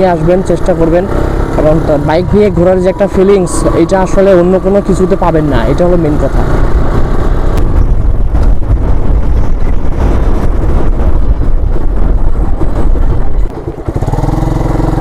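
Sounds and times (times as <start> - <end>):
motorbike engine rumble: 0.0 - 15.0
wind buffeting microphone: 0.0 - 15.0.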